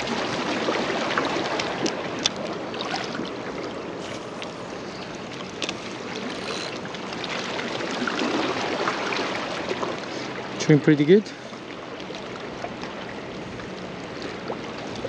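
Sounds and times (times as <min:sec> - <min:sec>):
water washing against jetty: 0:00.0 - 0:15.0.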